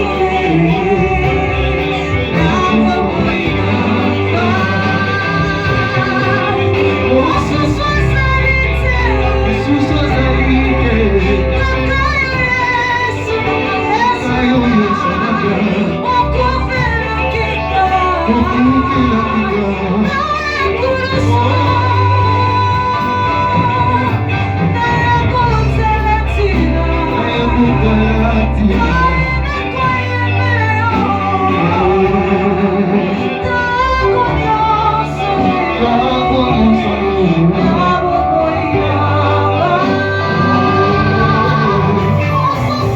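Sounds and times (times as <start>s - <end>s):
bass accompaniment: 0.0s - 42.9s
voices singing: 0.0s - 42.9s.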